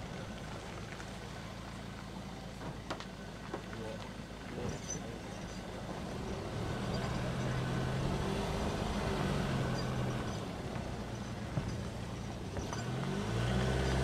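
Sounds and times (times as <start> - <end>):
car engine: 0.0 - 14.0
road noise: 0.0 - 14.0.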